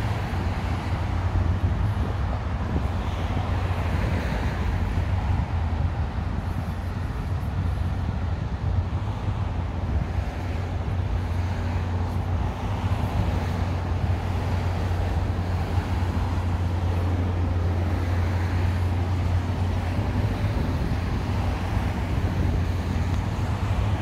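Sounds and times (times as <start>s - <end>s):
city road traffic hum: 0.0s - 24.0s.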